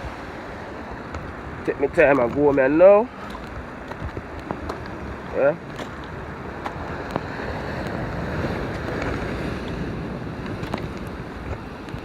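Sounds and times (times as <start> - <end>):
sea waves washing against rocks: 0.0 - 12.0
wind buffeting microphone: 0.0 - 12.0.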